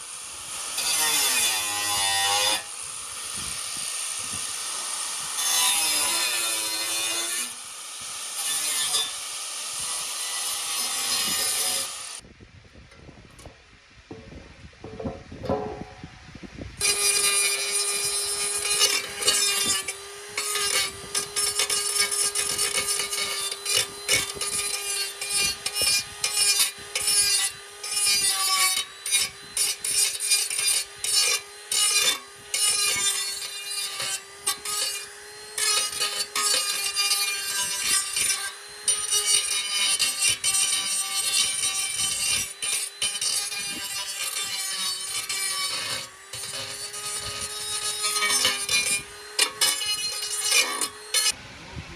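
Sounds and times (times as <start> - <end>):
power tool whining: 0.0 - 12.2, 16.8 - 51.9
grinding scraping bursts: 0.6 - 12.2, 16.8 - 51.4.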